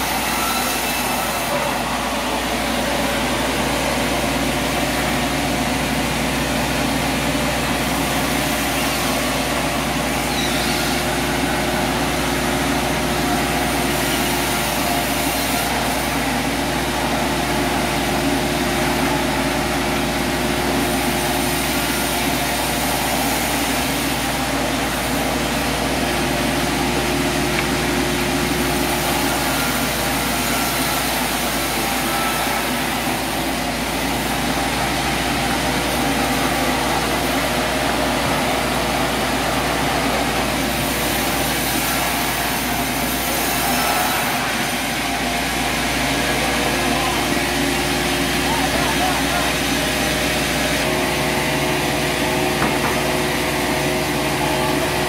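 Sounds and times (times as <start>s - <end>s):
band sawmill machine hum: 0.0s - 55.0s.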